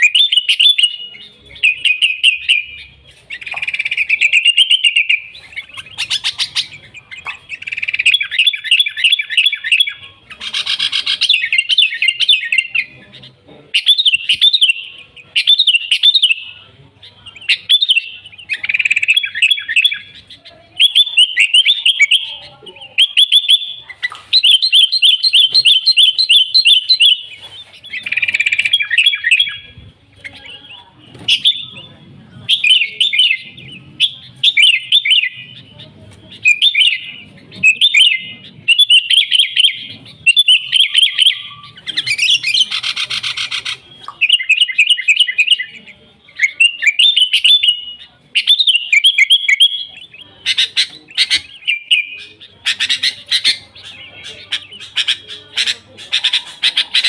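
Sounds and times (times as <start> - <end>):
bird chattering and whistling: 0.0 - 57.0.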